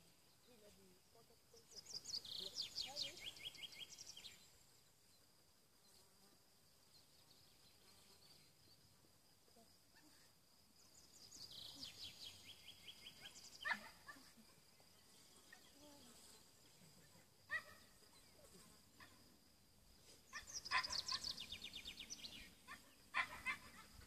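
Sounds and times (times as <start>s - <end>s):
insect hum: 0.0s - 24.0s.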